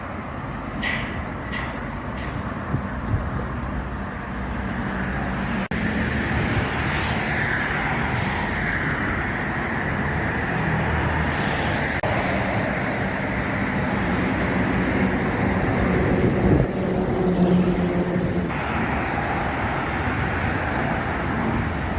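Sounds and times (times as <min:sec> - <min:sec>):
road traffic noise: 0:00.0 - 0:21.9
vehicle engine: 0:00.0 - 0:21.9.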